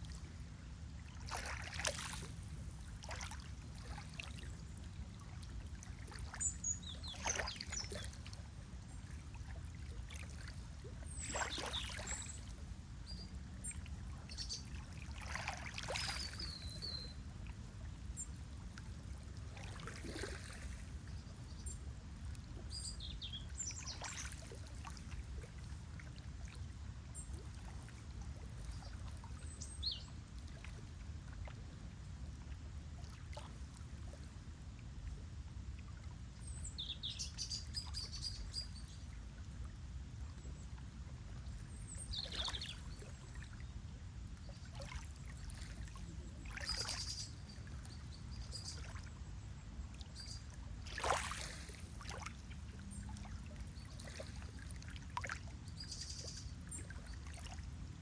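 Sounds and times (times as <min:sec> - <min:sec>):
lake water lapping: 0:00.0 - 0:21.8, 0:22.4 - 0:36.6, 0:39.4 - 0:43.7, 0:44.3 - 0:58.0.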